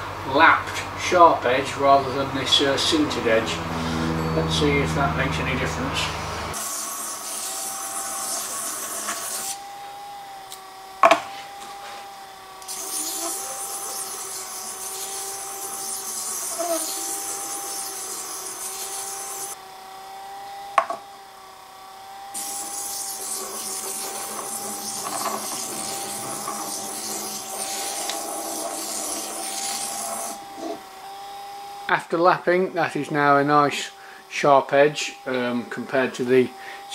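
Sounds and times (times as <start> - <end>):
electric motor whine: 0.0 - 36.9.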